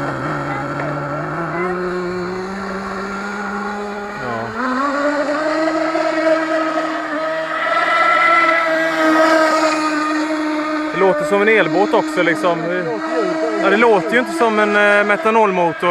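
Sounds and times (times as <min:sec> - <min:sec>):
model boat engine whining: 0:00.0 - 0:15.9.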